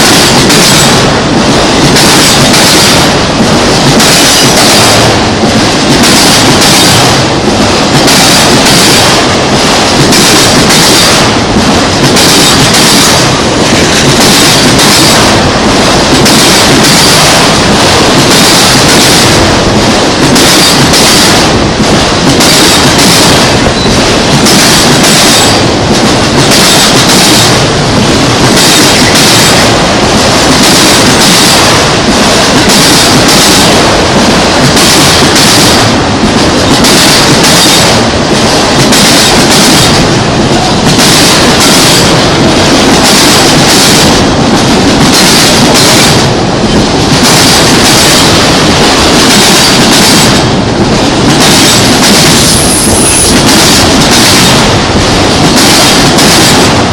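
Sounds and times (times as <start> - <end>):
train wheels clattering over rails: 0.0 - 56.9.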